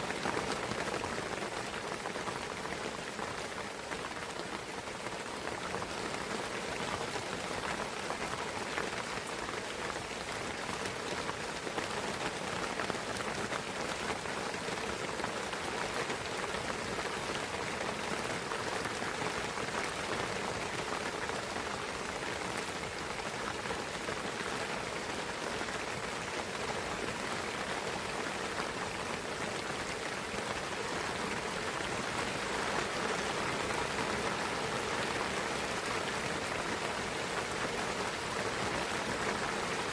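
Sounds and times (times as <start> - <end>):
rain pattering on trees: 0.0 - 39.9.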